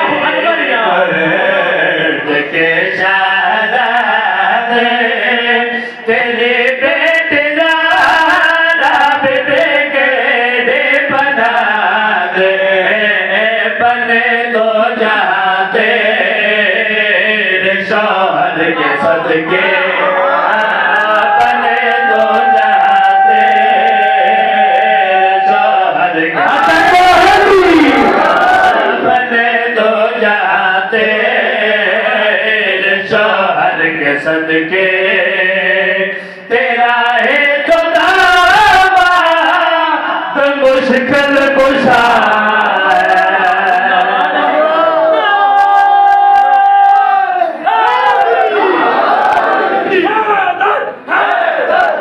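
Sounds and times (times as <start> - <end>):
men singing devotional chant: 0.0 - 50.1.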